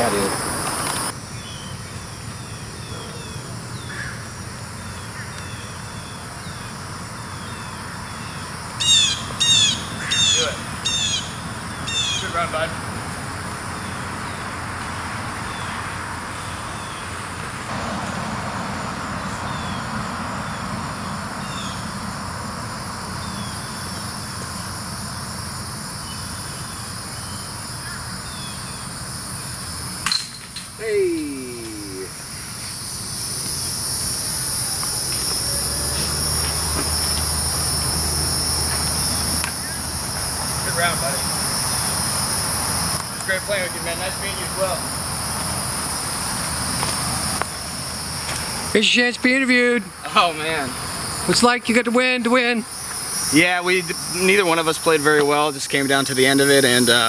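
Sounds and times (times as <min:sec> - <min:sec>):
insects buzzing: 0:00.0 - 0:57.0.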